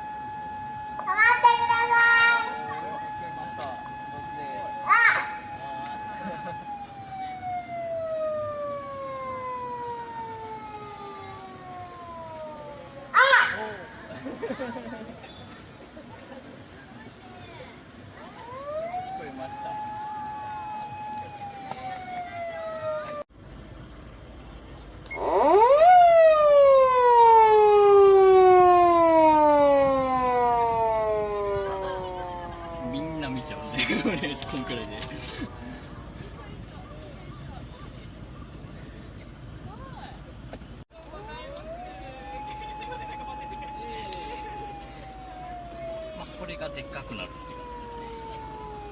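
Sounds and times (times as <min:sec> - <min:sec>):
police siren wailing: 0:00.0 - 0:15.1, 0:18.0 - 0:23.3, 0:25.1 - 0:38.3, 0:41.0 - 0:48.9.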